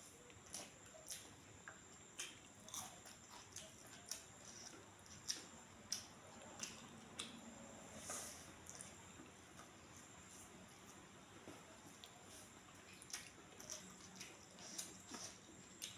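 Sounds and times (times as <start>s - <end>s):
person chewing: 0.3s - 15.9s.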